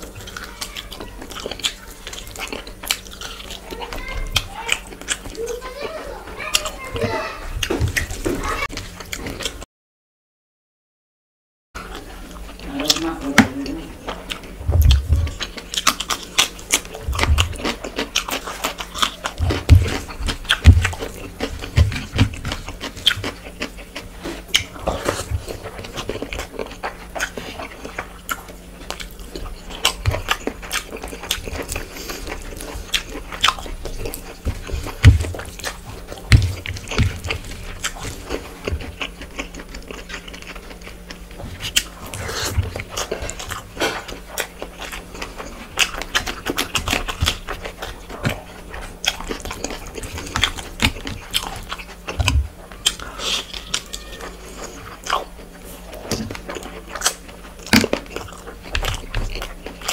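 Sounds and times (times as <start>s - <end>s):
chewing and lip-smacking: 0.0s - 9.6s, 11.8s - 59.9s.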